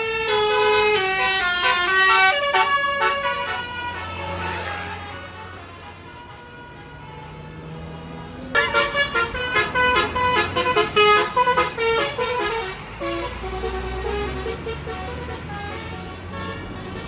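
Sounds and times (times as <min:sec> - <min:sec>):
bus horn playing melodic notes: 0:00.0 - 0:17.0.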